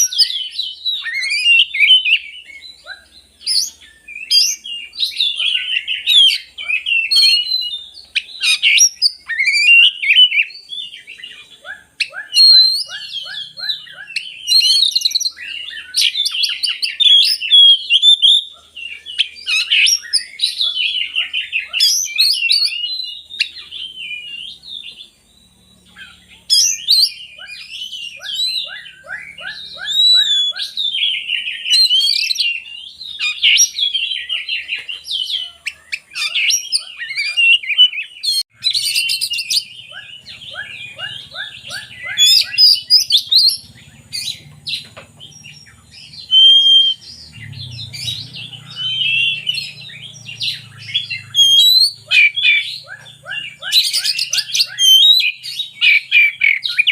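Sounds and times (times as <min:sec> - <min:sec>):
songbird singing whistles and trills: 0:00.0 - 0:56.9.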